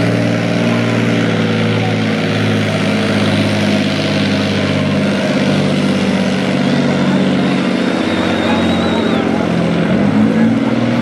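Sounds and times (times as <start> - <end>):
tank engine under heavy load: 0.0 - 11.0.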